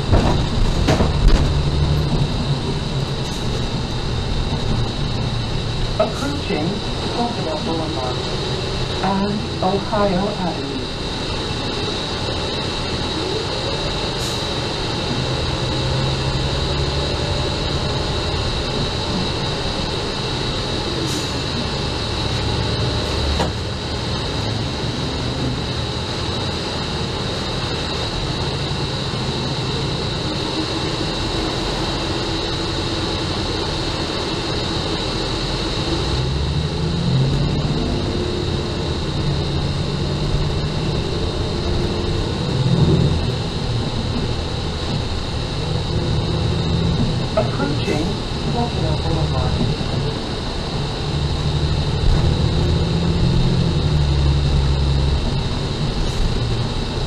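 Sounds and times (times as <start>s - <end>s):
bus engine and road noise: 0.0s - 57.0s
high-pitched whine: 0.0s - 57.0s.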